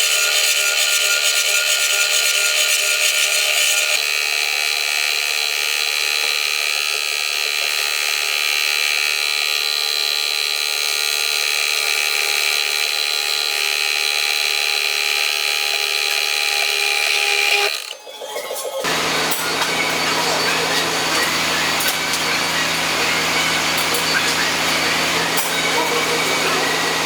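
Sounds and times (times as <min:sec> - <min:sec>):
electric drill drilling into metal: 0:00.0 - 0:18.0, 0:18.8 - 0:27.0.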